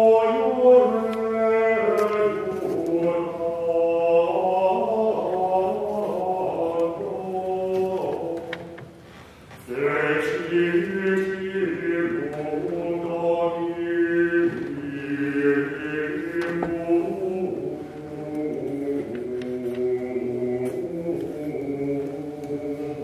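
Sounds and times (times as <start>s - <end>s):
choir singing chant: 0.0s - 8.8s, 9.7s - 23.0s.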